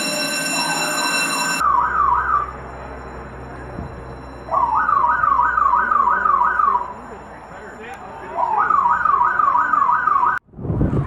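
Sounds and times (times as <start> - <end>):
fire alarm sweeping tone: 0.0 - 10.4.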